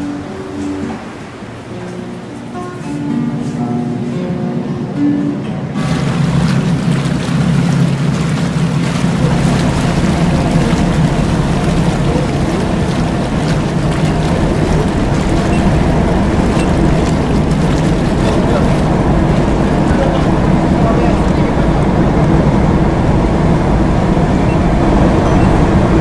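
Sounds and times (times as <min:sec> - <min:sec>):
guitar music: 0:00.0 - 0:07.0, 0:09.0 - 0:26.0
churned water rushing: 0:00.0 - 0:26.0
ship engines droning: 0:00.0 - 0:26.0.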